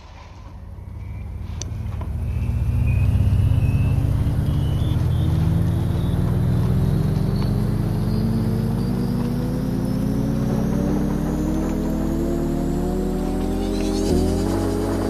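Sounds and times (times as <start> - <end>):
high whine: 0.0 - 15.0.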